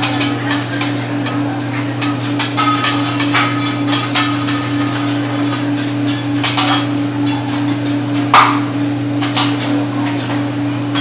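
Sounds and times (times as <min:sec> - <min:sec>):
metal utensils clanking on griddle: 0:00.0 - 0:10.4
steady low hum: 0:00.0 - 0:11.0.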